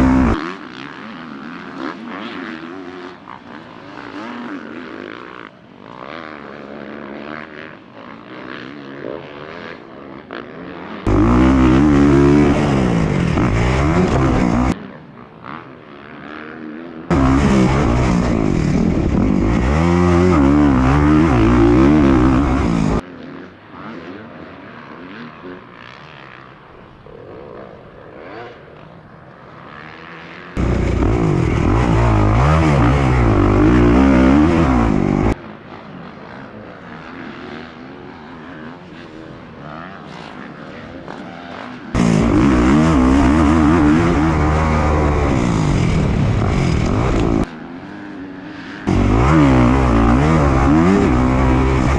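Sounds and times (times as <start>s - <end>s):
dirt bike engines revving: 0.0s - 27.0s, 28.1s - 51.9s.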